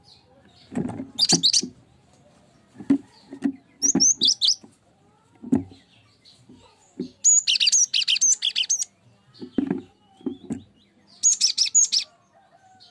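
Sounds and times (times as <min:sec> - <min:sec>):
bird chirping: 0:00.0 - 0:04.8, 0:05.4 - 0:12.9.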